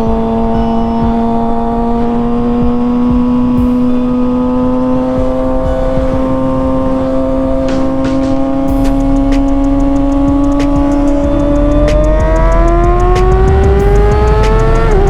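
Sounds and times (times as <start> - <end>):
motorcycle engine at high rpm: 0.0 - 15.0
wind rushing over microphone: 0.0 - 15.0.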